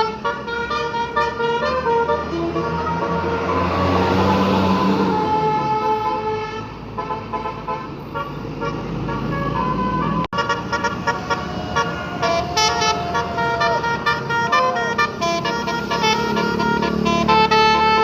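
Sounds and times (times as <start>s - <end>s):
engine rumble: 0.0s - 18.0s
multi-tone bus horn tune: 0.0s - 18.0s.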